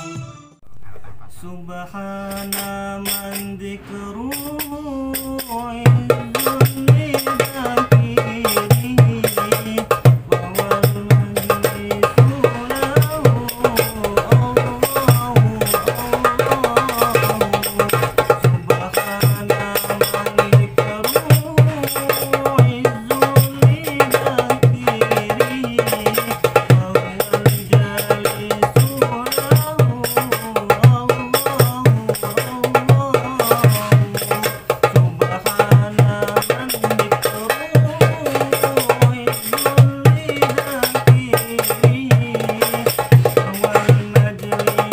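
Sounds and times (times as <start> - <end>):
person singing a melody: 0.0 - 44.9
frame drums: 4.3 - 44.9
hand drum strokes: 4.3 - 44.9.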